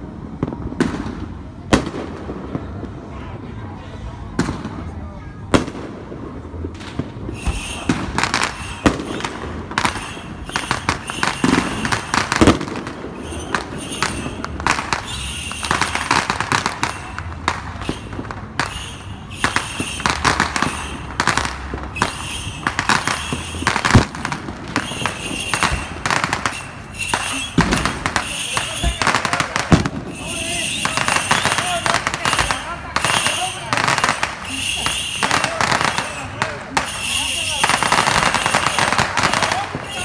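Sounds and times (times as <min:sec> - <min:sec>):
firecrackers cracking and popping: 0:00.0 - 0:03.1, 0:04.2 - 0:40.0
heavy firework bangs: 0:00.0 - 0:03.5, 0:04.2 - 0:40.0.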